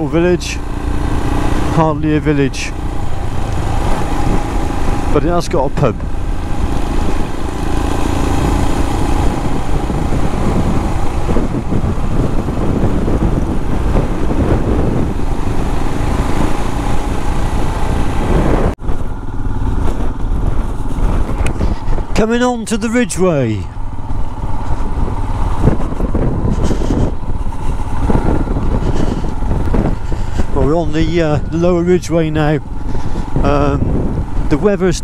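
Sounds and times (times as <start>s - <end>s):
motorcycle running: 0.0s - 35.0s
wind rush on microphone: 0.0s - 35.0s.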